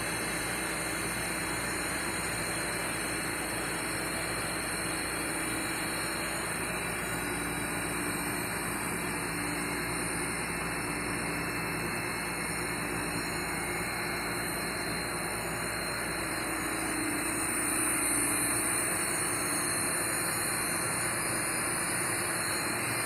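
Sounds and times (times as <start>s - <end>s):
grinder machine low hum: 0.0s - 23.0s.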